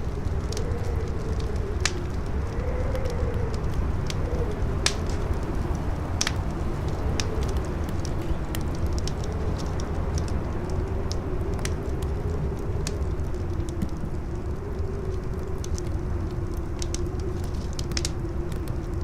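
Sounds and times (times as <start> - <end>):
campfire crackling: 0.0 - 19.0
strong wind howling: 0.0 - 19.0.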